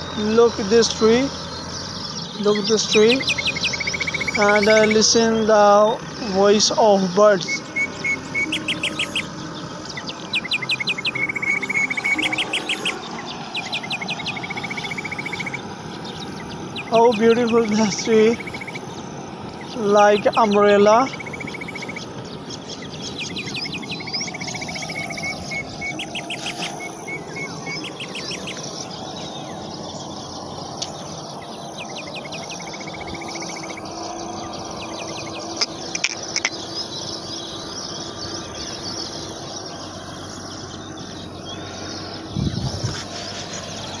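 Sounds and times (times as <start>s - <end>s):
high insect-like drone: 0.0s - 44.0s
wild birds chirping and calling: 0.0s - 44.0s.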